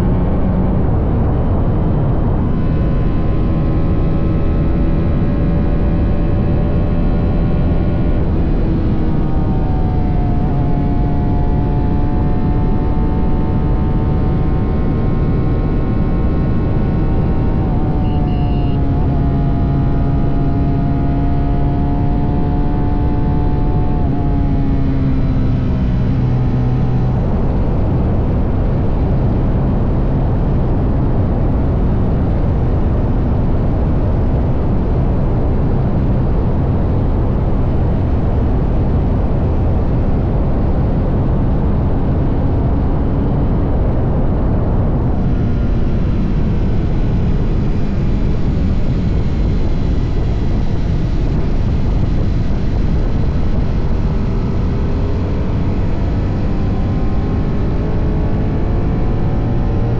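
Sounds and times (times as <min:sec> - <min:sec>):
wind and road rush: 0:00.0 - 0:59.9.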